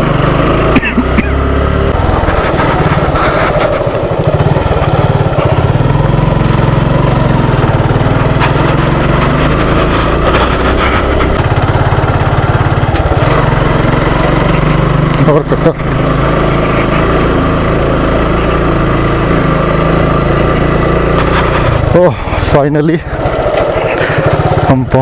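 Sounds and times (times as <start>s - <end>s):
motorcycle engine under load: 0.0s - 25.0s.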